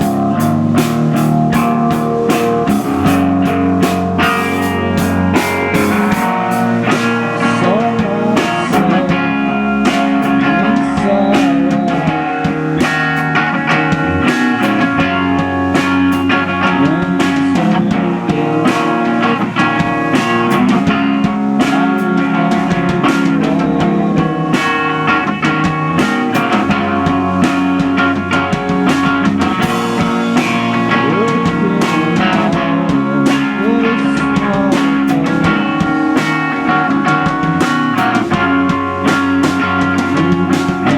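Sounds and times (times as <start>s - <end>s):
bass guitar: 0.0s - 40.9s
drum kit beat: 0.0s - 40.9s
electric guitars playing chords: 0.0s - 40.9s.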